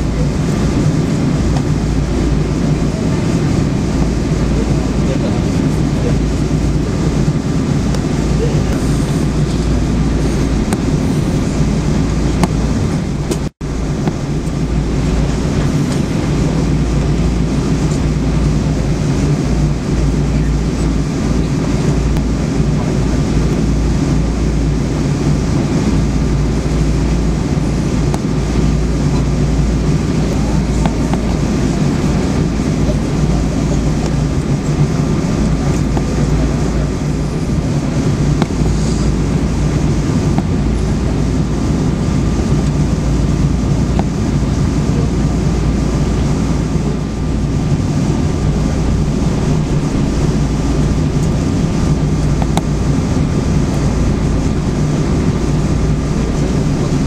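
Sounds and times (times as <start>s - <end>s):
aircraft engines idling: 0.0s - 57.0s
faint steady whine: 0.0s - 57.0s.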